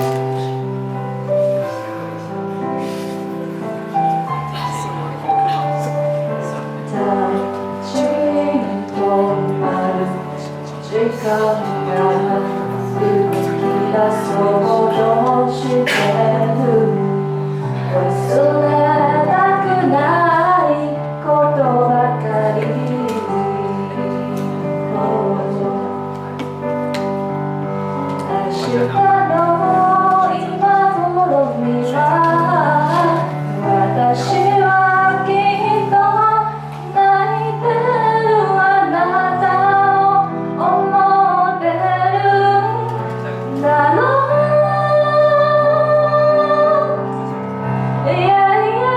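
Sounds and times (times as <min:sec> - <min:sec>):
instrumental backing track: 0:00.0 - 0:48.9
woman singing a slow ballad: 0:06.5 - 0:26.0, 0:28.2 - 0:47.2, 0:47.9 - 0:48.9.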